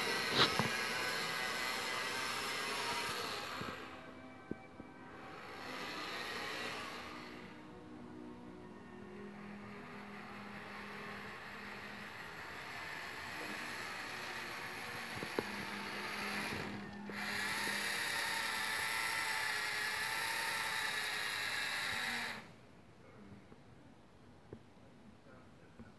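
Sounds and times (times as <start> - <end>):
small electric motor whining: 0.0 - 7.8, 8.4 - 22.6.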